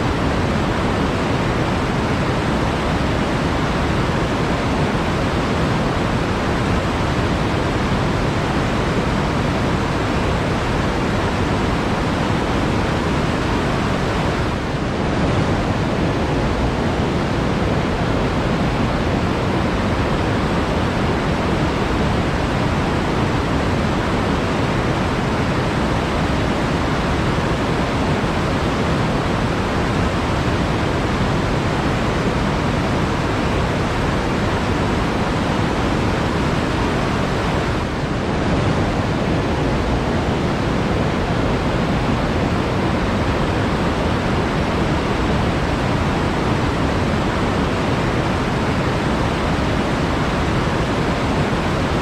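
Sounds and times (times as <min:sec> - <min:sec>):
water rushing: 0:00.0 - 0:52.0.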